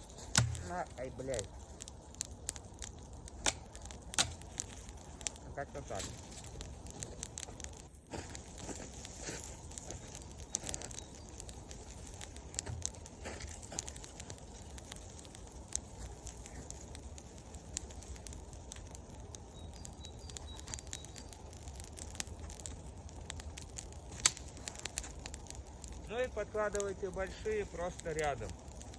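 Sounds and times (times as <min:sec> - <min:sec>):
campfire crackling: 0:00.0 - 0:28.9
sharp snaps and pops: 0:00.0 - 0:28.9.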